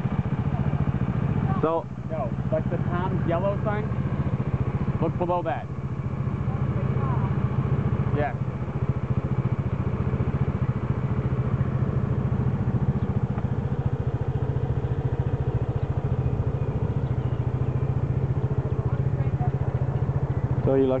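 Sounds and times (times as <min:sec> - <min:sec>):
motor scooter engine idling: 0:00.0 - 0:21.0.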